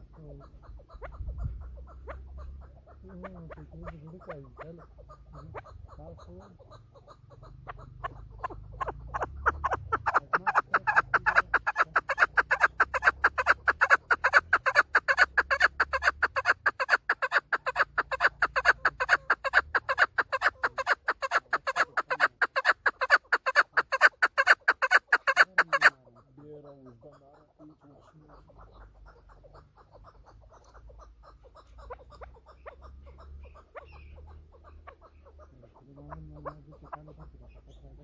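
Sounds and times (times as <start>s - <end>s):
partridge calling: 0.0s - 38.0s.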